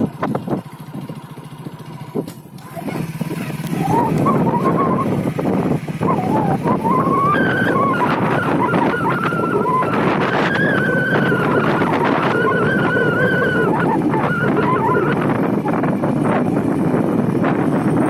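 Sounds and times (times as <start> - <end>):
wind noise: 0.0 - 1.2, 2.1 - 18.0
motorcycle engine: 0.0 - 18.0.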